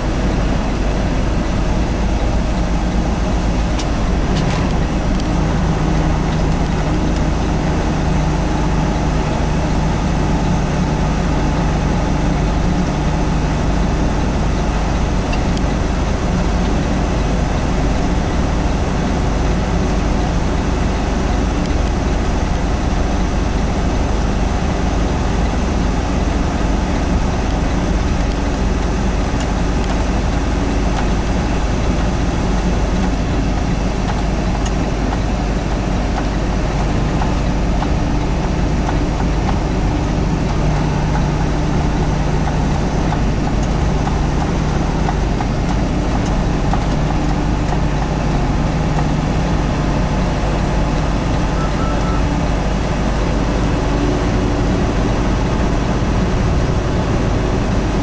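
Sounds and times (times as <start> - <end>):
diesel truck engine running: 0.0 - 58.0
road and wind noise: 0.0 - 58.0.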